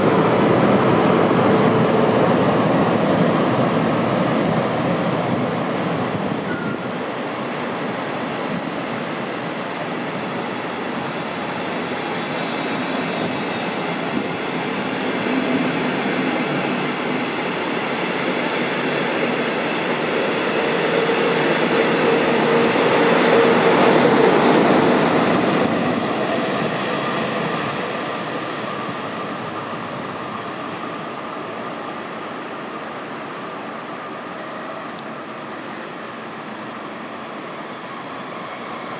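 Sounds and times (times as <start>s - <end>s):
train rolling past: 0.0s - 38.9s.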